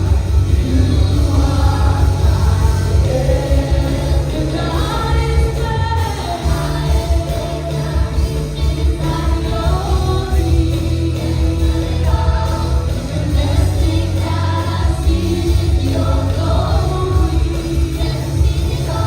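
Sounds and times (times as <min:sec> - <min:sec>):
band accompaniment with bass: 0:00.0 - 0:19.0
group singing worship song: 0:00.0 - 0:19.0.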